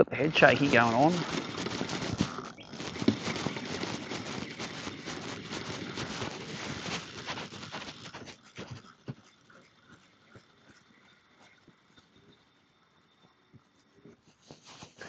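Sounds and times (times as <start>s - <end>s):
fishing reel scrabbling: 0.2s - 15.0s.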